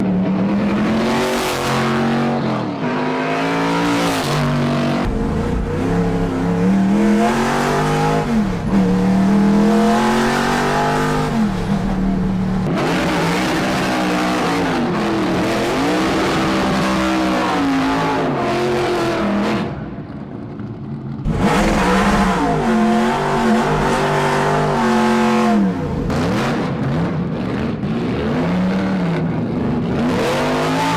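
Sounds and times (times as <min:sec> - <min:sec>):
race car engine revving: 0:00.0 - 0:19.8, 0:21.2 - 0:30.9.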